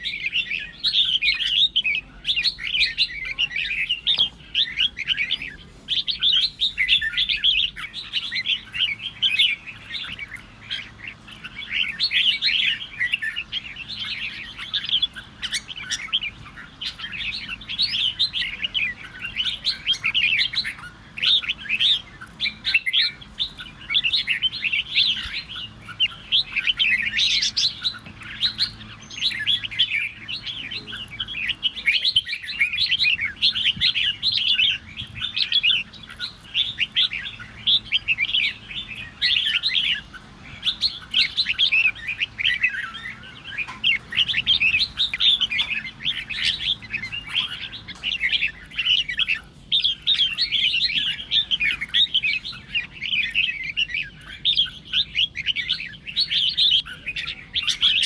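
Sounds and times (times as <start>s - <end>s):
songbirds singing fast phrases: 0.0s - 58.0s.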